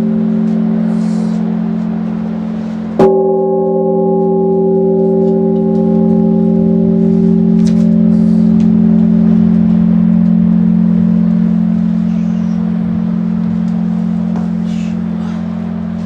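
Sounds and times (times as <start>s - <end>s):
large church bell tolling: 0.0s - 16.0s.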